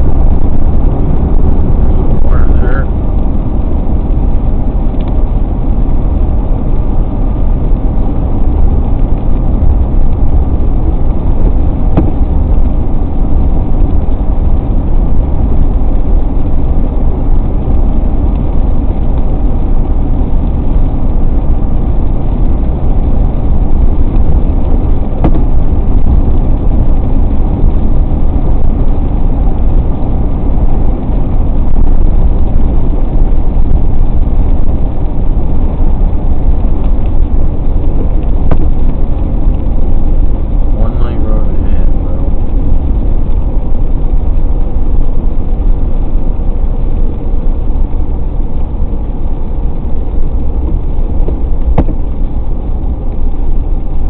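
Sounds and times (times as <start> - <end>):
car driving at highway speed: 0.0 - 54.0.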